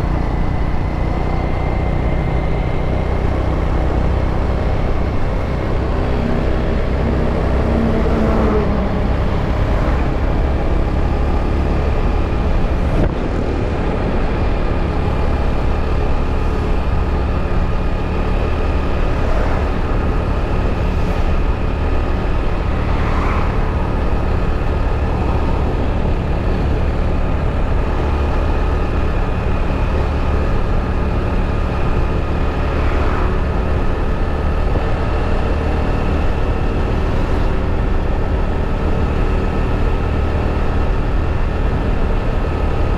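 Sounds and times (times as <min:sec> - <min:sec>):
motorbike engine rumbling: 0:00.0 - 0:42.9.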